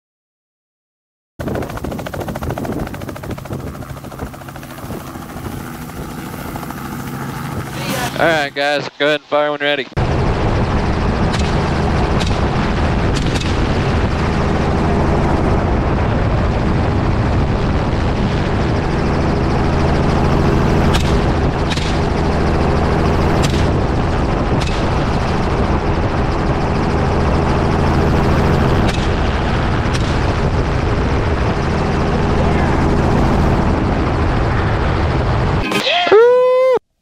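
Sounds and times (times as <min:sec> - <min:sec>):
helicopter rotor and engine drone: 0:01.4 - 0:36.4.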